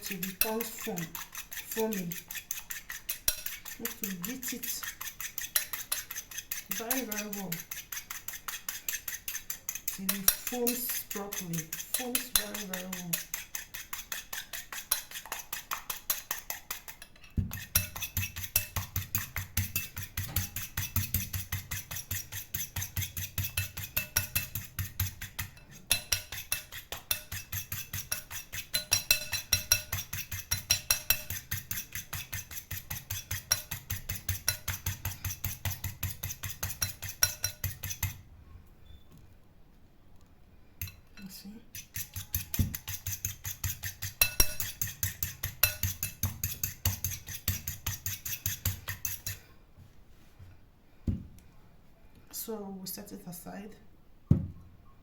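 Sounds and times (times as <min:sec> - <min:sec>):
whisk clinking against bowl: 0:00.0 - 0:38.2, 0:40.8 - 0:49.4.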